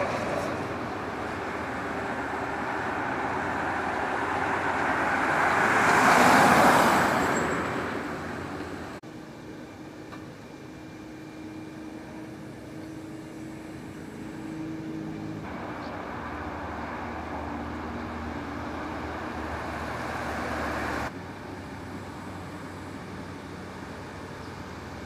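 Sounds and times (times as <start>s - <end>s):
vehicle humming: 0.0s - 25.0s.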